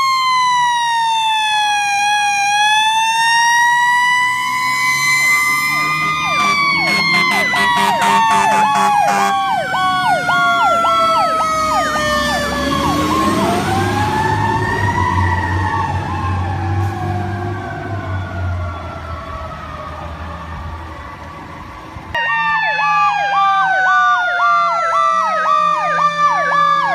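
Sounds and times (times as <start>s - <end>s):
siren yelping: 0.0s - 21.4s, 22.1s - 26.9s
siren wailing: 0.0s - 26.9s.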